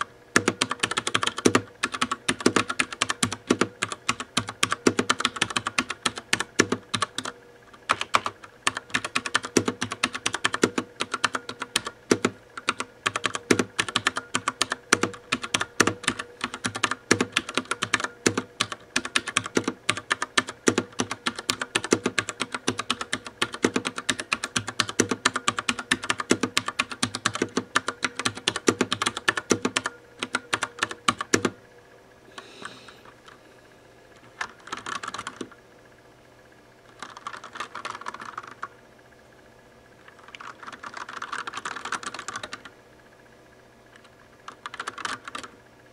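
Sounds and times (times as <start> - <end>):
mechanical keyboard typing: 0.0 - 31.6, 34.3 - 35.6, 36.9 - 38.7, 40.1 - 42.7, 44.0 - 45.5.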